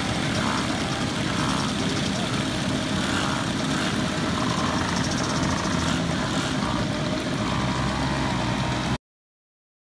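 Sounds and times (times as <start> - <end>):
moped engines running: 0.0 - 9.0.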